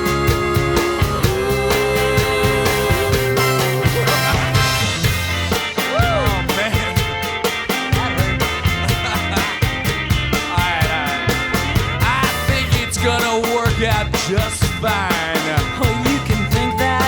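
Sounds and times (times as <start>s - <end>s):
pitch-bending lead guitar line: 0.0s - 17.0s
rock drum beat: 0.0s - 17.0s.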